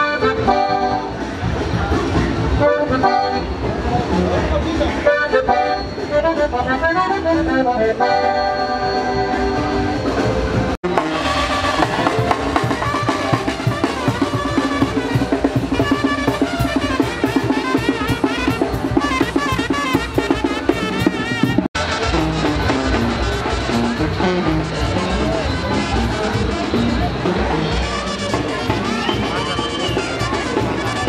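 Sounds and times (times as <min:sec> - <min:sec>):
accordion band with drums: 0:00.0 - 0:31.0
brass band playing: 0:00.0 - 0:31.0.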